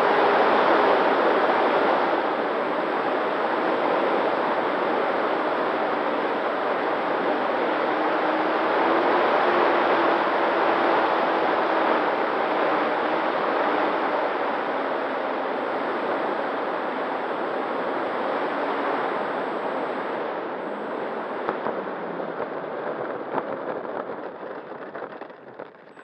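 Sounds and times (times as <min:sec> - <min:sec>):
motor and propeller tone: 0:00.0 - 0:26.0.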